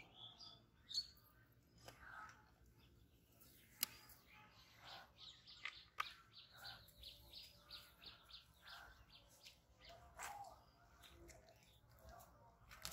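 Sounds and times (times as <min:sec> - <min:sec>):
bird chirps: 0:00.0 - 0:12.2.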